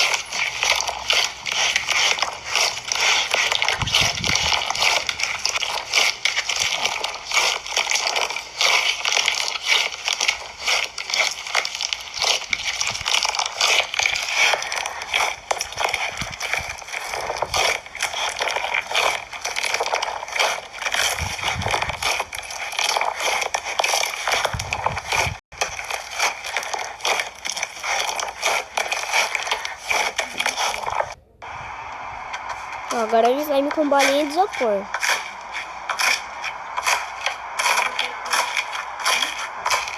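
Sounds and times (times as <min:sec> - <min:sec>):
slime crackling and crunching: 0:00.0 - 0:31.2, 0:32.9 - 0:39.9.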